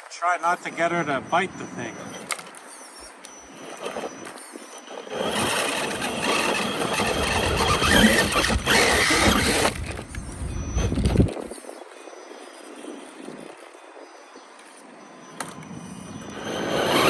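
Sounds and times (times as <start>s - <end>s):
rc car electric motor and drivetrain: 0.4s - 17.0s.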